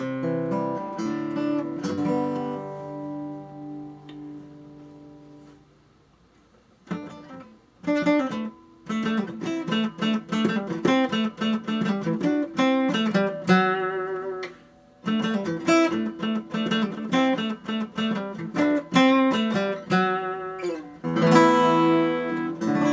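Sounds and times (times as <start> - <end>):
acoustic guitar strummed: 0.0 - 5.8, 6.8 - 22.9.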